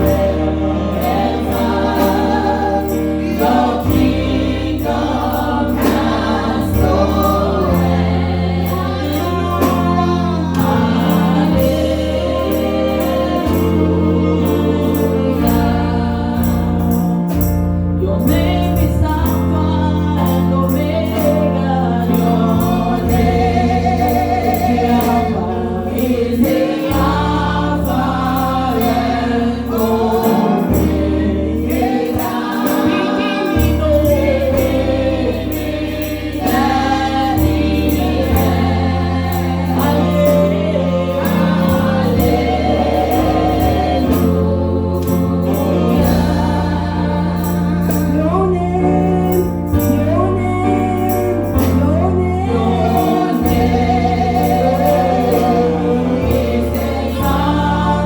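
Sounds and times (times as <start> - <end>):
choir singing gospel music: 0.0 - 58.0.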